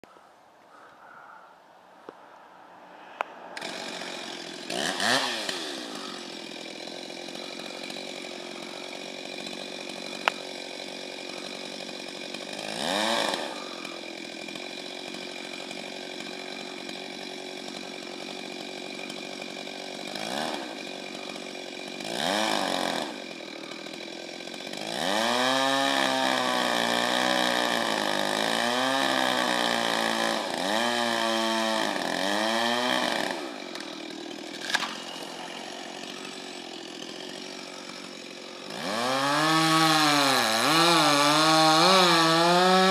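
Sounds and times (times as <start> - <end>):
chainsaw revving: 3.2 - 42.9.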